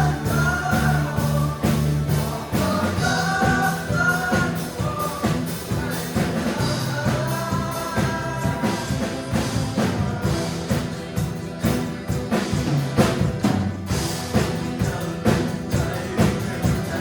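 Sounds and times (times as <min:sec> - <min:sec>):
person singing: 0:00.0 - 0:12.6, 0:14.3 - 0:17.0
band playing gospel song: 0:00.0 - 0:17.0
drums: 0:00.0 - 0:17.0.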